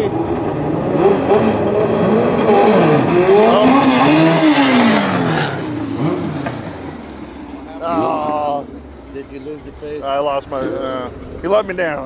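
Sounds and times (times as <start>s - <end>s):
racing lawn mower engines: 0.0s - 12.0s.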